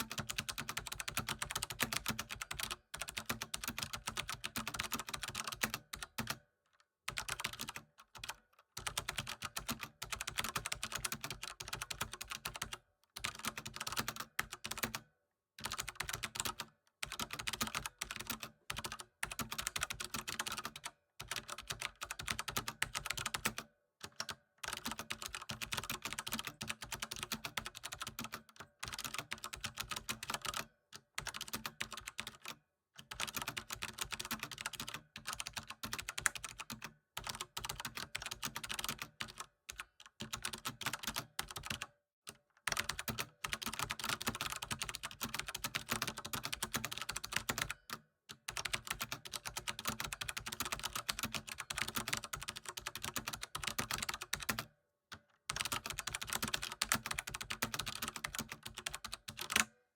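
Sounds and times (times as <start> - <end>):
keyboard typing: 0.0 - 6.4, 7.1 - 15.0, 15.6 - 30.6, 31.2 - 39.4, 40.2 - 41.9, 42.7 - 54.7, 55.5 - 59.8.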